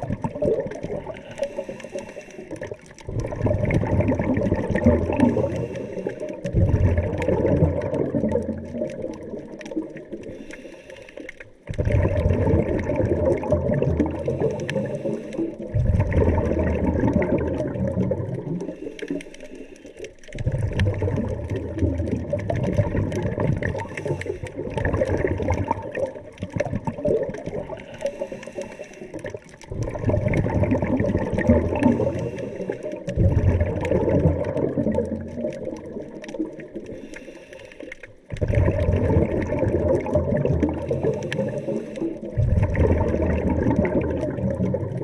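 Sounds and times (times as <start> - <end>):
underwater exhaled bubbles gurgling: 0.0 - 45.0.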